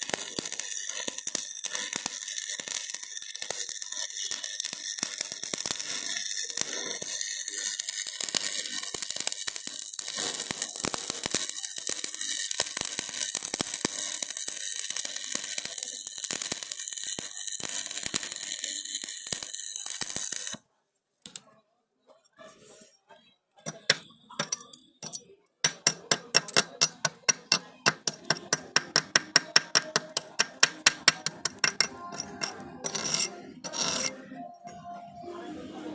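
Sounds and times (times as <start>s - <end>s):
arc welding crackling: 0.0s - 20.6s, 23.7s - 34.2s.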